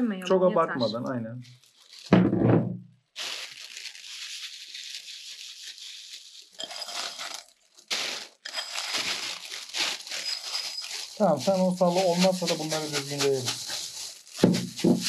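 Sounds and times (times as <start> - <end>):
plastic bag crinkling: 1.4 - 2.2, 3.1 - 15.0.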